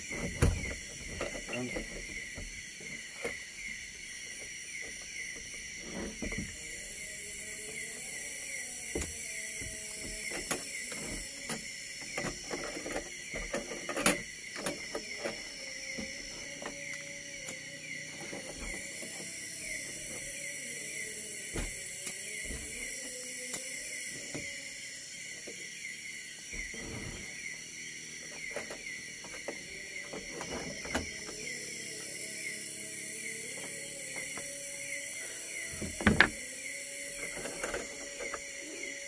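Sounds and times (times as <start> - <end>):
night insects chorus: 0.0 - 39.0.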